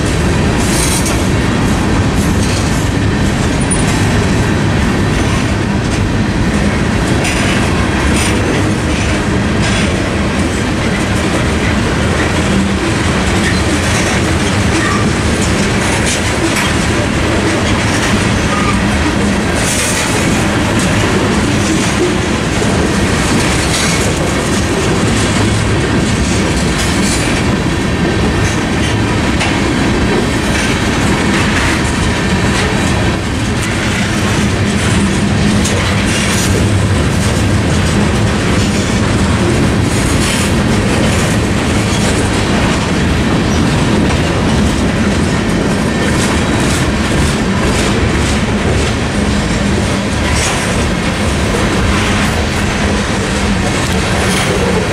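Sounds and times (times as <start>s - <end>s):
freight train rumbling past: 0.0s - 54.9s
wheels clicking over rail joints: 0.0s - 54.9s.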